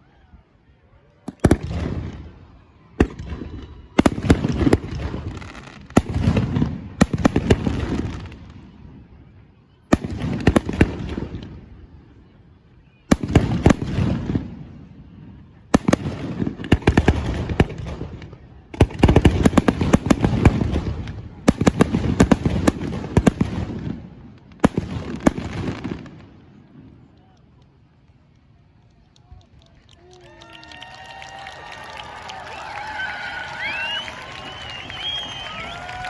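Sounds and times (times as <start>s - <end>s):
fireworks crackling: 3.0s - 9.0s, 13.1s - 36.0s.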